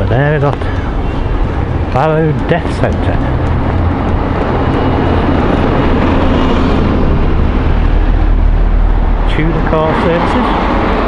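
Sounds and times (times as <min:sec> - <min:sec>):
tyre and road noise: 0:00.0 - 0:11.0
vehicle engine rumble: 0:00.0 - 0:11.0.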